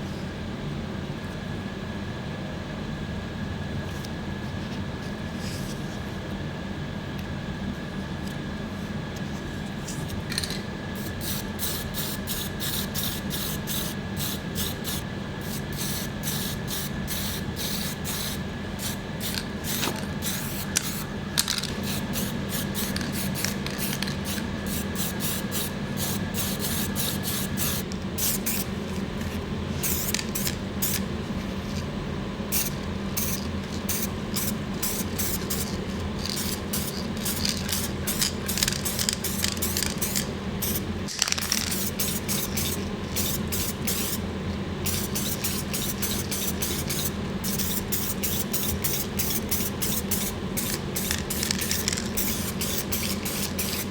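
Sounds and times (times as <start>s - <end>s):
steady low hum: 0.0s - 53.9s
thin steady whine: 0.0s - 53.9s.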